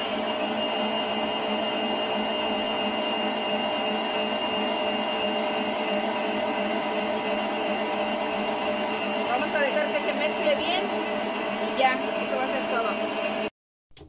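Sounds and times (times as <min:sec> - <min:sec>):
electric stand mixer running: 0:00.0 - 0:13.5.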